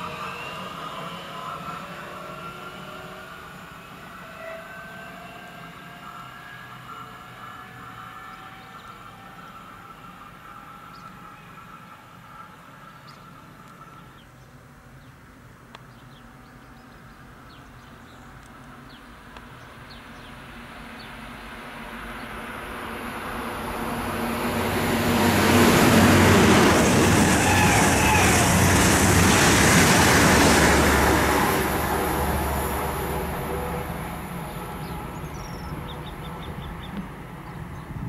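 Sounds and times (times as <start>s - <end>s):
high-speed train passing: 0.0s - 38.0s.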